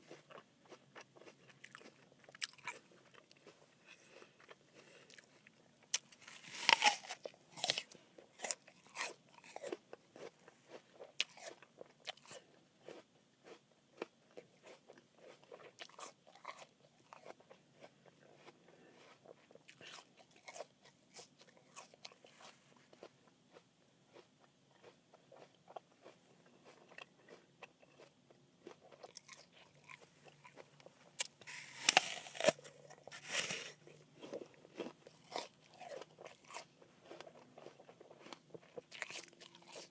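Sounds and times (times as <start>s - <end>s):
apple chewing crunches: 0.0s - 39.9s
crunchy apple bites: 0.0s - 39.9s.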